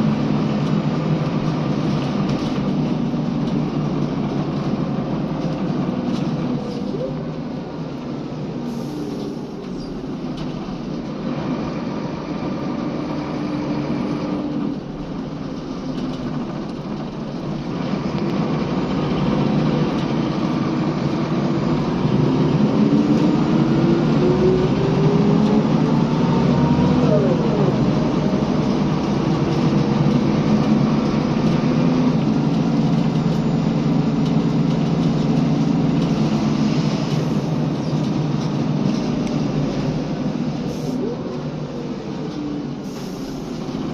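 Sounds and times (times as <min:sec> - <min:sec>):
bus diesel engine running: 0:00.0 - 0:43.9.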